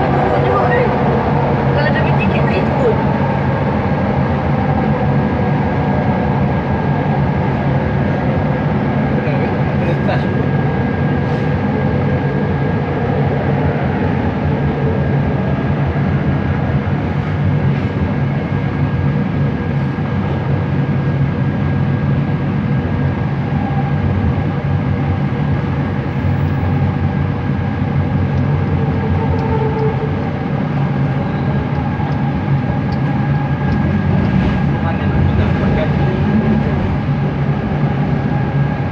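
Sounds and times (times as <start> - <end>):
metro train rumble: 0.0 - 38.9.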